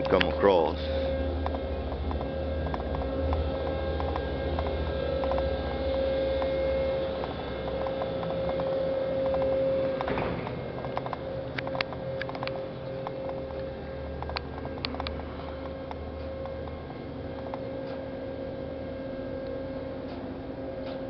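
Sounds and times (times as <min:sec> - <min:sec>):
winch machinery humming: 0:00.0 - 0:21.0.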